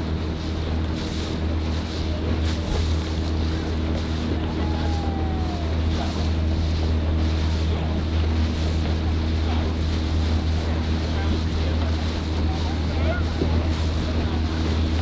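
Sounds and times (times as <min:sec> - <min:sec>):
boat engine humming: 0:00.0 - 0:15.0
rushing water: 0:00.0 - 0:15.0.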